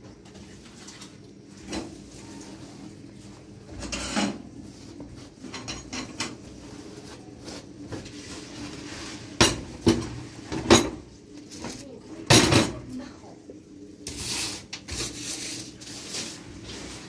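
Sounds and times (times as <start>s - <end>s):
cloth scrubbing stove: 0.0s - 17.0s.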